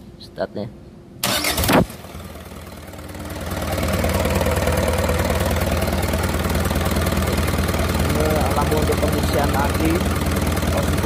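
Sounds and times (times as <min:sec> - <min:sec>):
marine diesel engine running: 0:02.0 - 0:11.0.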